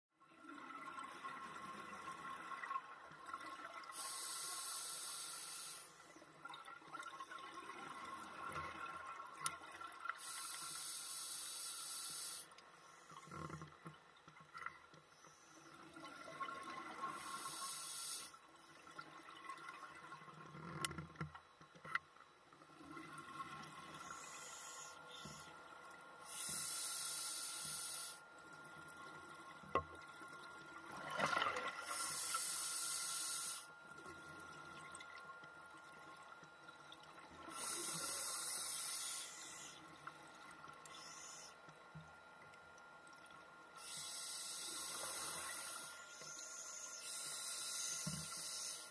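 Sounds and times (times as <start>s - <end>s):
faint steady tone: 0.2s - 48.9s.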